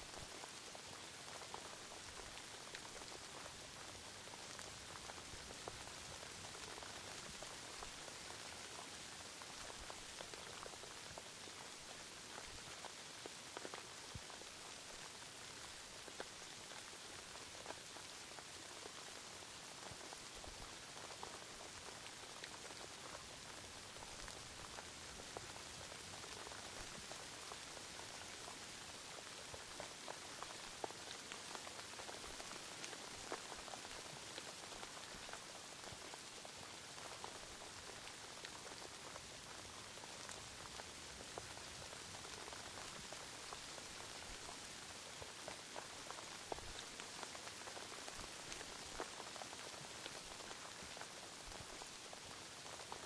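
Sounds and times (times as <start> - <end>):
raindrop ticks: 0.0 - 53.0
steady rain hiss: 0.0 - 53.0.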